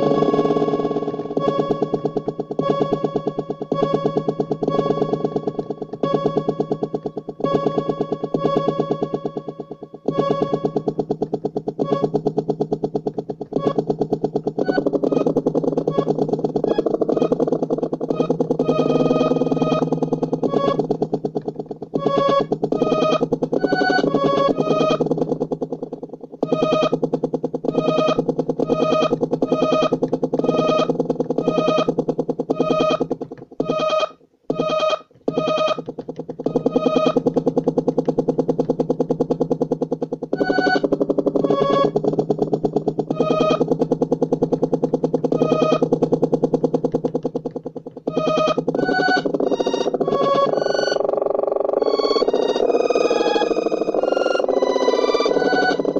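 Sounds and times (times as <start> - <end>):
glitching electronic keyboard tone: 0.0 - 55.9.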